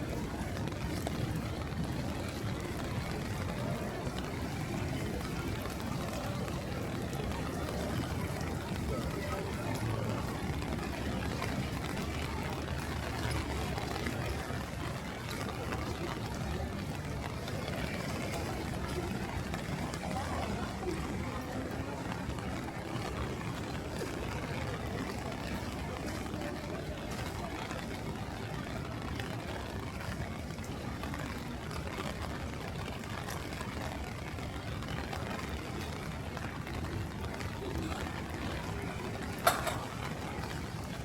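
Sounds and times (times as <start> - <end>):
low traffic rumble: 0.0 - 41.0
rain on street: 0.0 - 41.0
wind: 0.0 - 41.0.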